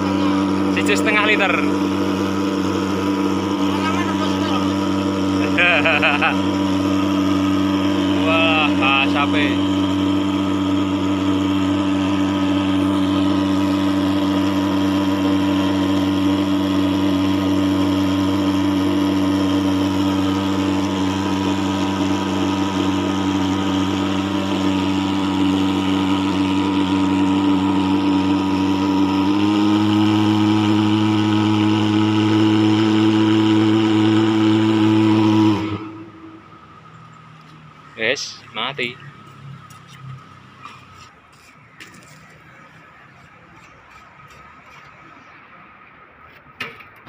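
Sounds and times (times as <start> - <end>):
pulse-jet engine buzzing: 0.0 - 46.2.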